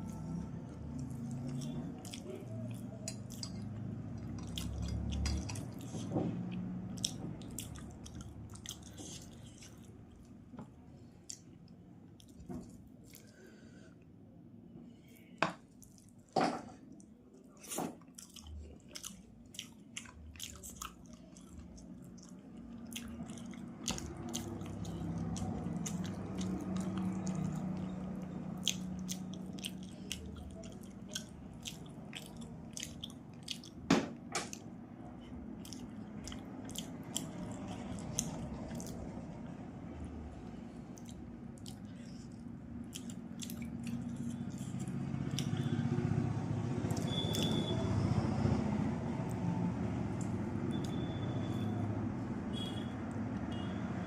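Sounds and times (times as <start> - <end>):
chewing with wet mouth smacks: 0.0 - 13.6, 15.1 - 47.9, 49.1 - 51.9.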